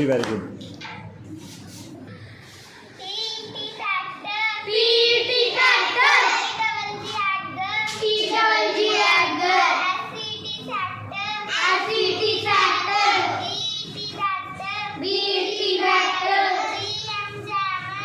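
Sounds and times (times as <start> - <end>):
children singing together: 3.0 - 18.0.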